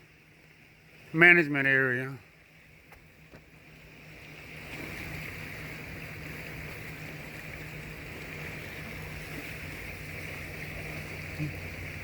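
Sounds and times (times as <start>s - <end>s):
floodwater rushing: 0.0s - 12.0s
low steady hum: 0.0s - 12.0s.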